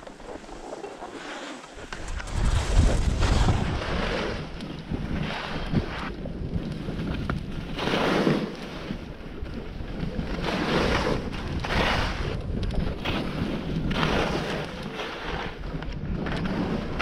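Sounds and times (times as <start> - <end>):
ski edges scraping snow: 0.0 - 17.0
wind buffeting microphone: 1.8 - 17.0.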